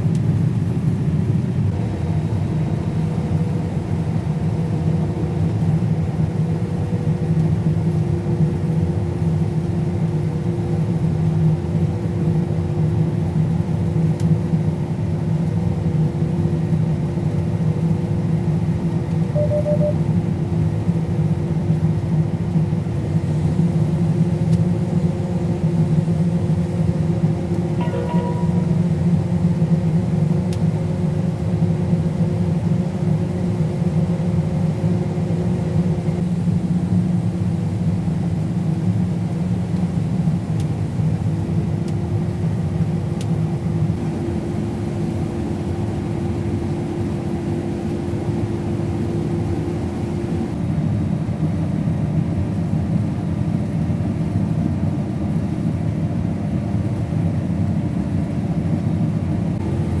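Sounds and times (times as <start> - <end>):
combine harvester drone: 0.0 - 60.0.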